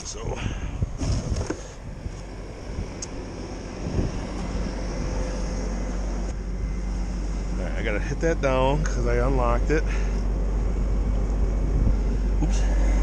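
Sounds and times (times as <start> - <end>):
skid-steer engine idling: 1.5 - 13.0.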